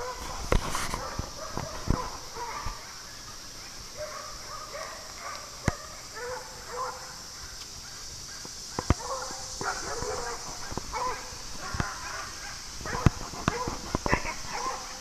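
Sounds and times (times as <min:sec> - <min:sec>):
distant dogs barking: 0:00.0 - 0:15.0.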